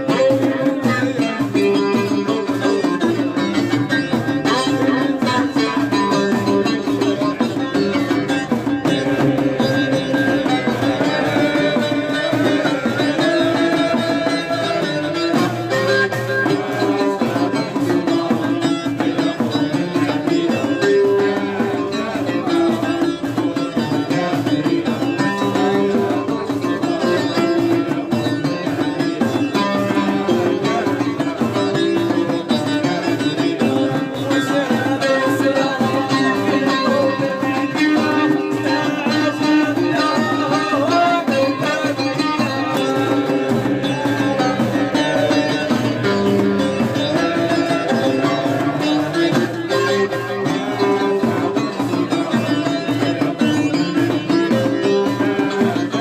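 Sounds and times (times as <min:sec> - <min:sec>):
hand drums: 0:00.0 - 0:56.0
plucked string melody: 0:00.0 - 0:56.0.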